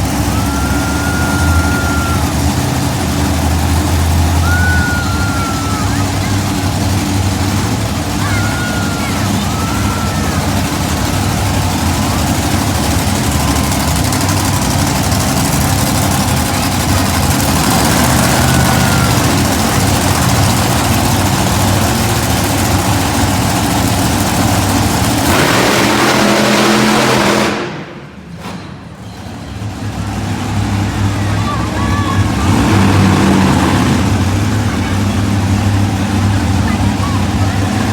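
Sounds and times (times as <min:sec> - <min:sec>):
monster truck engines roaring: 0:00.0 - 0:37.9.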